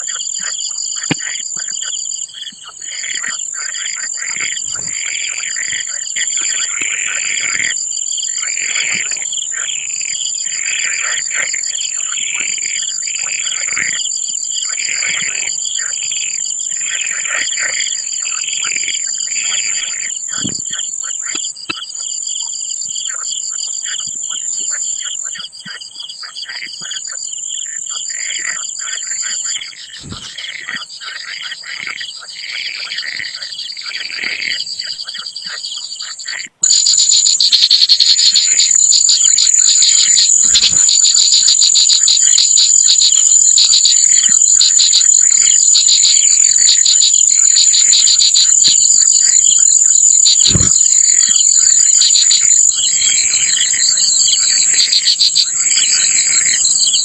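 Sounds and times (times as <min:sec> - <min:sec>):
insects chirring drone: 0:00.0 - 0:57.0
short repeated insect calls: 0:00.0 - 0:57.0.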